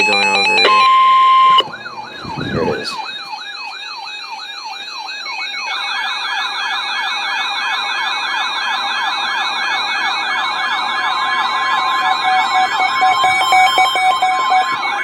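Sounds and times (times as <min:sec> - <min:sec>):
electronic sirens wailing: 0:00.0 - 0:15.0
steady siren tone: 0:00.0 - 0:15.0.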